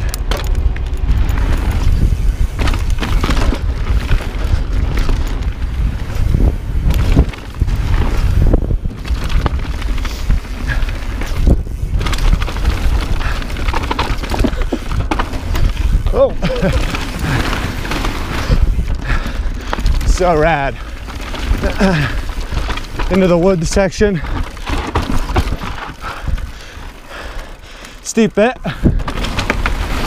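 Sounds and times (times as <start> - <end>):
wind rushing over microphone: 0.0 - 27.0, 28.7 - 30.0
bike rattling over rocks: 0.0 - 30.0.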